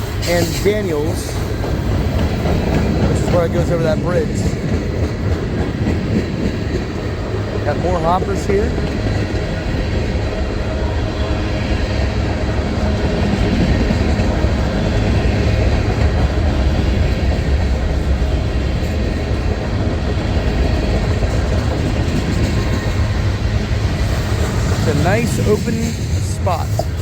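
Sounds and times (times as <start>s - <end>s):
freight train wheels rumbling on rail: 0.0s - 27.0s.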